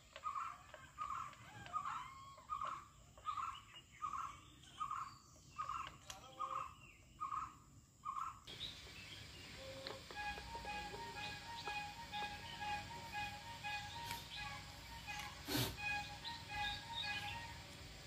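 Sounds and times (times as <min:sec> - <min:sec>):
bird calling: 0:00.0 - 0:18.0.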